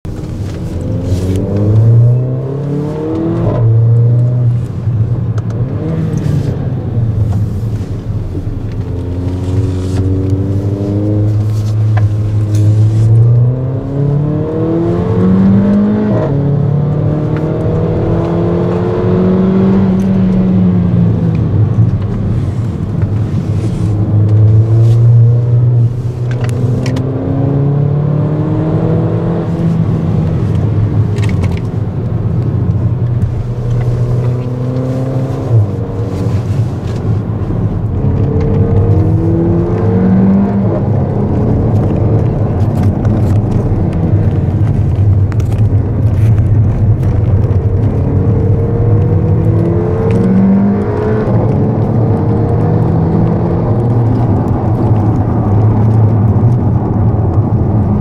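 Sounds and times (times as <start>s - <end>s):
car engine revving: 0.1s - 58.0s.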